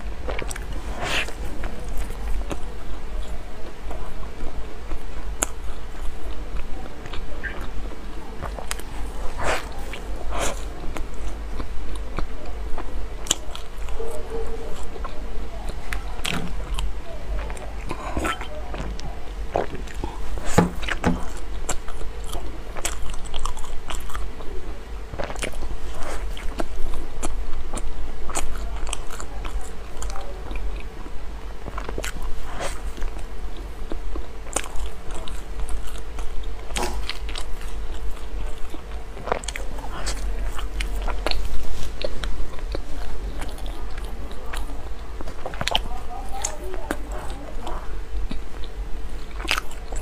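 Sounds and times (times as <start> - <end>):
crisp crackles of biting bread: 0.0 - 50.0
faint steady hum: 0.0 - 50.0
soft mouth sounds: 0.0 - 50.0.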